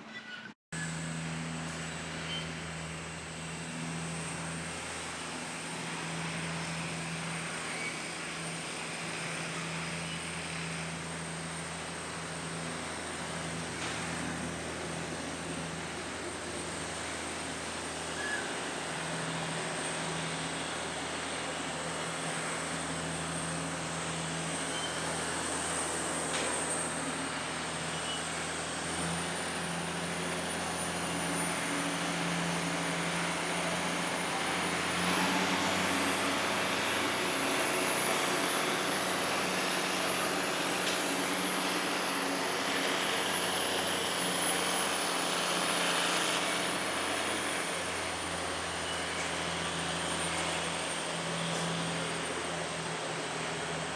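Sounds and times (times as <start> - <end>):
vehicle running hum: 0.8 - 53.9.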